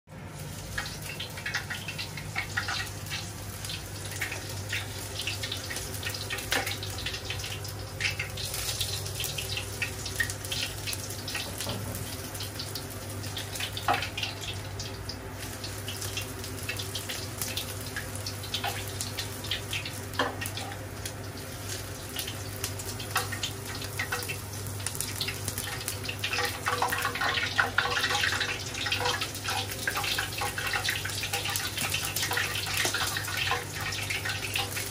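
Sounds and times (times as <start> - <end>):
meat sizzling in hot oil: 0.1 - 34.9.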